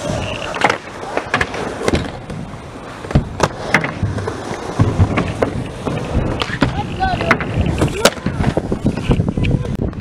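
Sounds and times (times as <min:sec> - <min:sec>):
skateboard clacks and knocks: 0:00.0 - 0:10.0
skateboard wheels rolling on concrete: 0:00.0 - 0:10.0.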